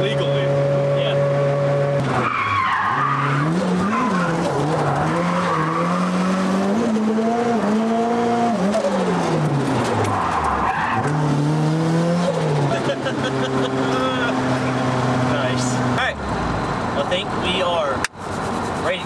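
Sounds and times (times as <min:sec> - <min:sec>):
car engine revving: 0:00.0 - 0:19.0
tyres skidding and squealing: 0:00.0 - 0:19.0.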